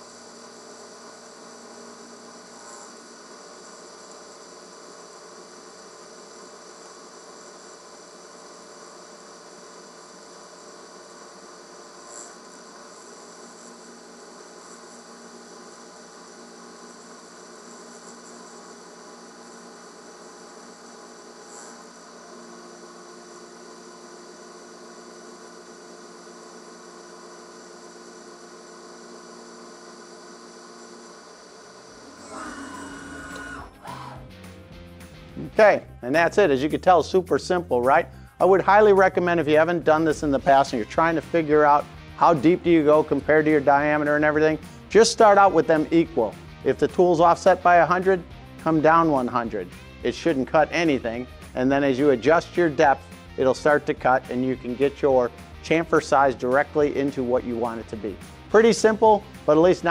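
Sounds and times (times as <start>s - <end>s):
milling machine whining: 0.0s - 59.9s.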